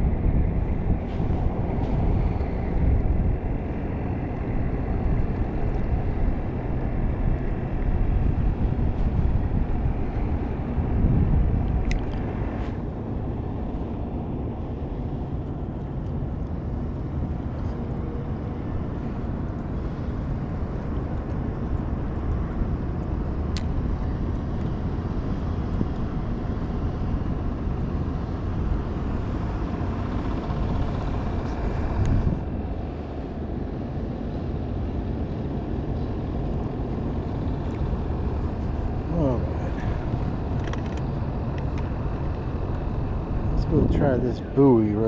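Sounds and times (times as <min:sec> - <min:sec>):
wind on microphone: 0:00.0 - 0:44.7
outboard motor running: 0:00.0 - 0:45.0.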